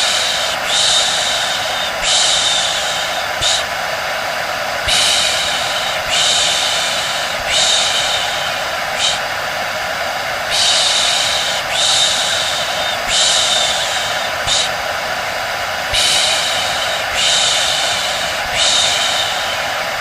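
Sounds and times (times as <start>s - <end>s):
hair dryer drone: 0.0s - 20.0s.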